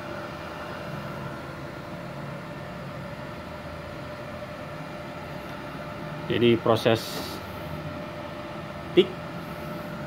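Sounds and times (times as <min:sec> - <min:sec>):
cooling fan whine: 0:00.0 - 0:10.0.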